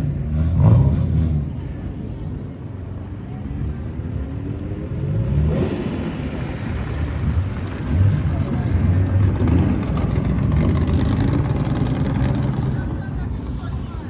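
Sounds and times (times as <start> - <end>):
car exhaust rumbling and revving: 0.0 - 1.8, 3.6 - 13.6.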